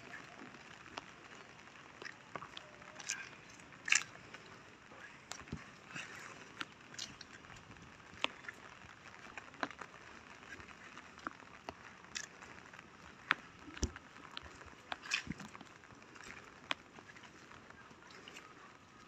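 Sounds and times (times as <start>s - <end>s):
rain dripping on leaves: 0.0s - 19.0s.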